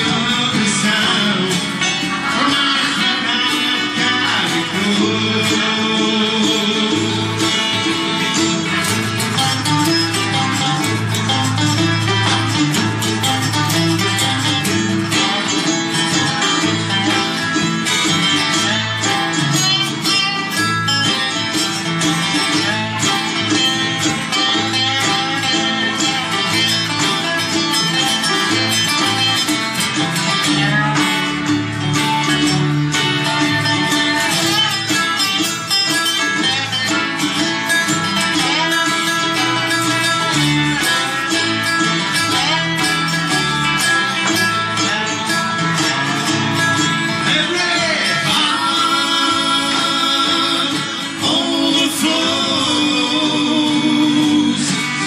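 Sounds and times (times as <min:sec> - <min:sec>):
country band playing instrumental: 0:00.0 - 0:55.0
guitars: 0:00.0 - 0:55.0
upright bass line: 0:00.0 - 0:55.0.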